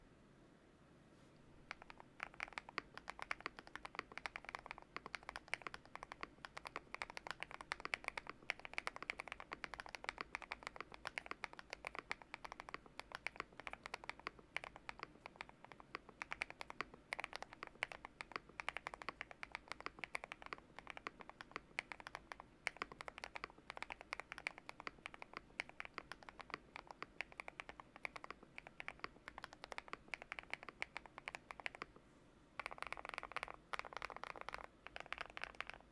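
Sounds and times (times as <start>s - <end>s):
mechanical keyboard typing: 1.7s - 32.0s, 32.6s - 35.9s.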